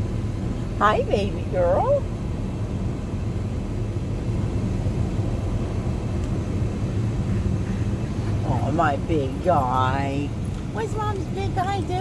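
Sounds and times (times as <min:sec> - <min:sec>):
truck cabin road and engine rumble: 0:00.0 - 0:12.0.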